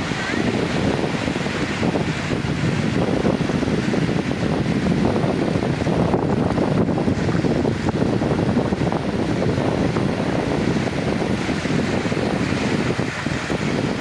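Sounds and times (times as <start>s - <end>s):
sea waves washing in: 0.0s - 14.0s
wind rumbling on microphone: 0.0s - 14.0s.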